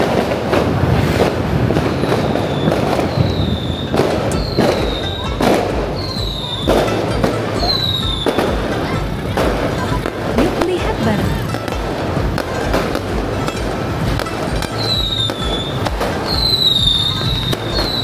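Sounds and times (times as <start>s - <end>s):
fireworks bangs: 0.0s - 18.0s
fireworks whistles falling: 0.0s - 18.0s.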